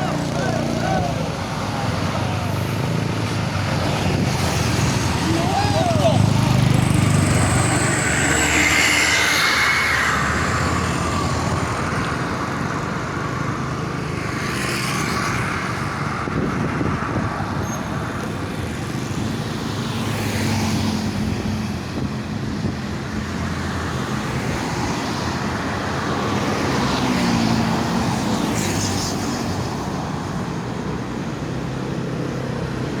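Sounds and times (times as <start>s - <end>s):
vehicles driving past: 0.0s - 33.0s.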